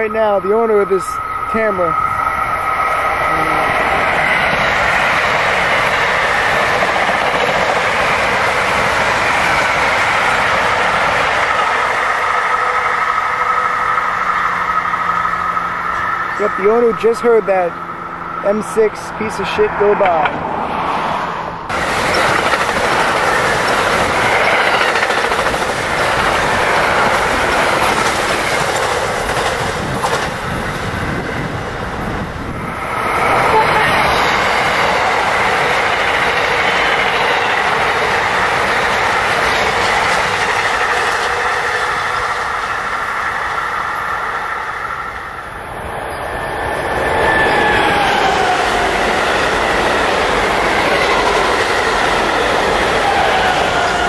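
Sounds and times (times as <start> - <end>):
electric train wheels clattering: 0.0 - 18.8, 21.7 - 54.0.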